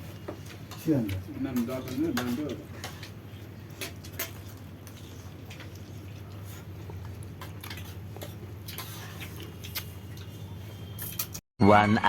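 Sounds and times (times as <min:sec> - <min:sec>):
people eating: 0:00.0 - 0:11.4.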